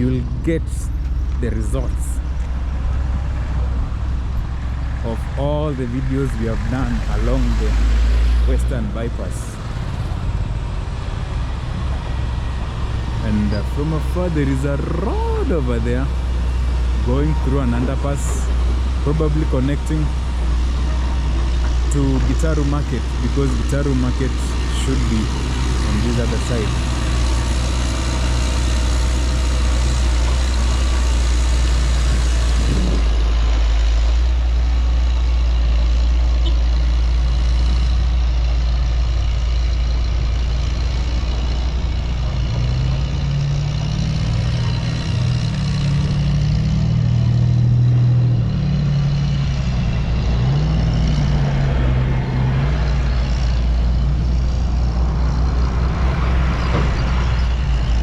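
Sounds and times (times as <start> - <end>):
heavy engine low drone: 0.0 - 58.0
traffic rumble: 0.0 - 58.0.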